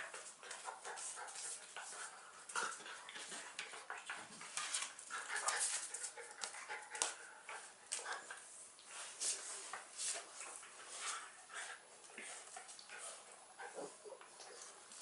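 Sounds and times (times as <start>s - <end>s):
dogs scuffling: 0.0s - 15.0s.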